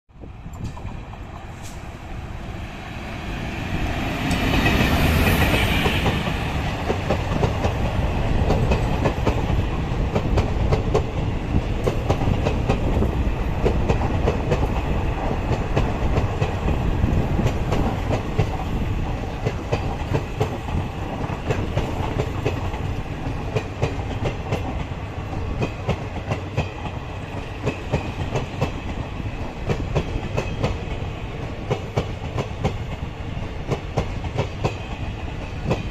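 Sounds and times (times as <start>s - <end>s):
train rushing past: 0.2s - 35.9s
train wheels clickety-clack: 0.4s - 2.0s, 3.6s - 35.9s.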